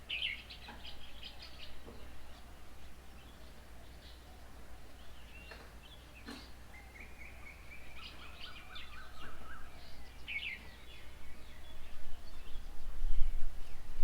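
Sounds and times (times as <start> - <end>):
birds chirping and twittering: 0.0 - 14.0.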